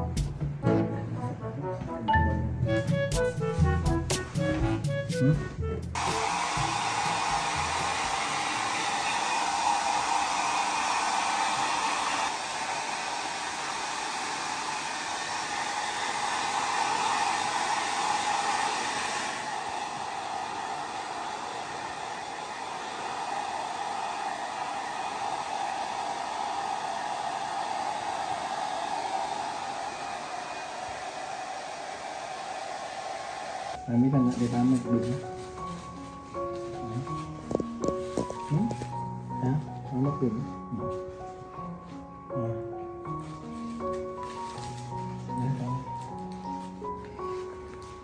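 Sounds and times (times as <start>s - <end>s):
hair dryer blowing: 6.0s - 40.1s, 43.2s - 48.0s.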